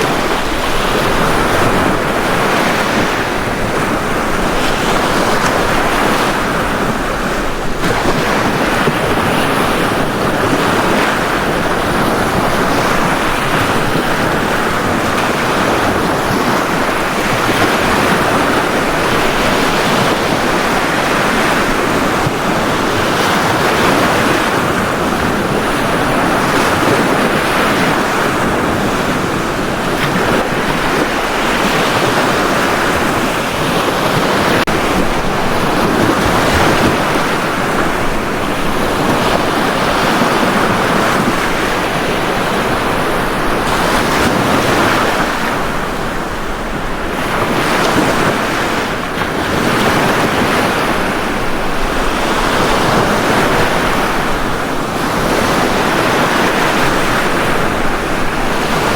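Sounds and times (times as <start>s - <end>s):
ocean surf washing ashore: 0.0s - 58.9s.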